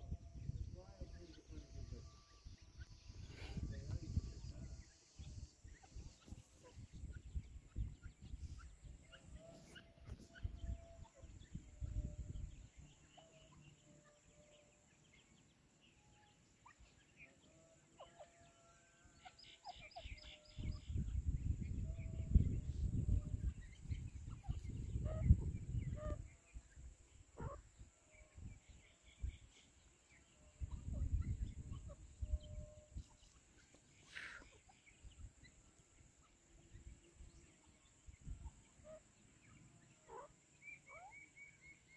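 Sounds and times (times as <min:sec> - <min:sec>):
francolins clucking: 0:00.0 - 0:26.5, 0:27.3 - 0:41.9.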